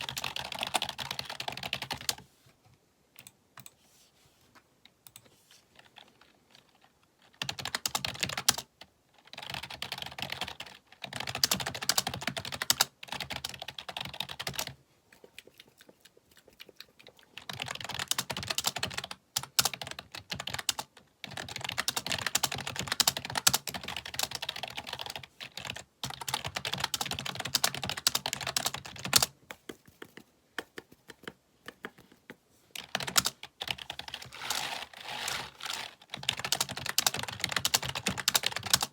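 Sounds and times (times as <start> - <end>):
fast typing on keyboard: 0.0 - 2.2, 5.8 - 38.9.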